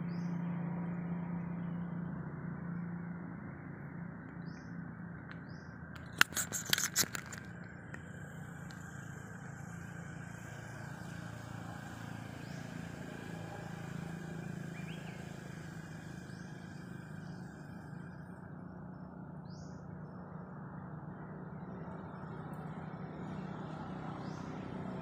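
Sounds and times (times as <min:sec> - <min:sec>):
motorbikes and cars passing: 0:00.0 - 0:25.0
road traffic hum: 0:00.0 - 0:25.0.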